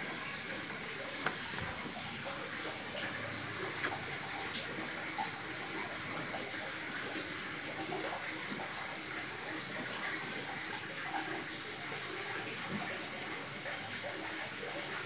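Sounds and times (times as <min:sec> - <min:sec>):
running water hissing: 0:00.0 - 0:15.0.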